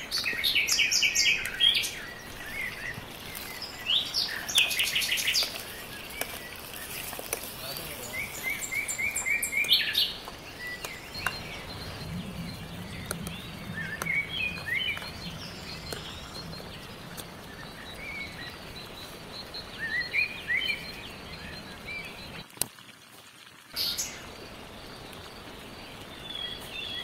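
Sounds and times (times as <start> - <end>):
birds chirping and singing: 0.0 - 22.4.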